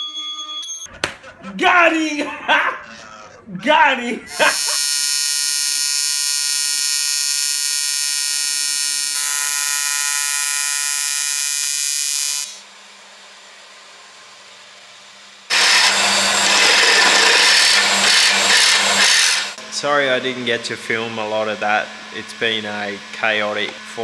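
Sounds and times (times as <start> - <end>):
power tool running loudly: 4.3 - 24.0
welding arc buzzing: 4.3 - 24.0.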